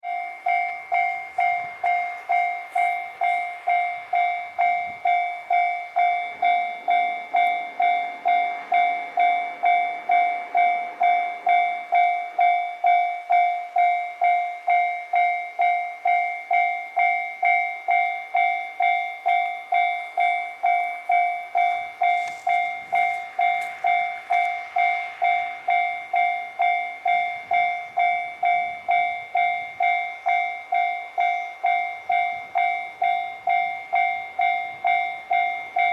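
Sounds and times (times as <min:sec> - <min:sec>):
level crossing warning bell: 0:00.0 - 0:35.9.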